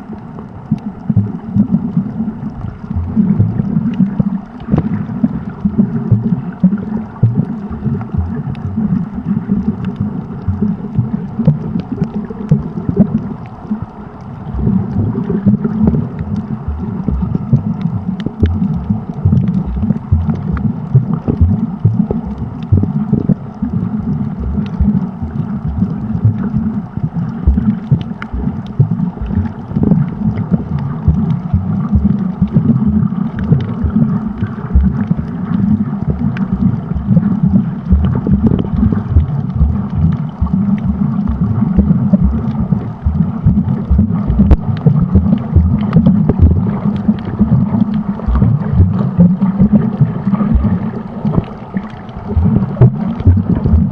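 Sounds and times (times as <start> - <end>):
small underwater clicks and crackles: 0.0 - 53.9
underwater rumble of moving water: 0.0 - 53.9.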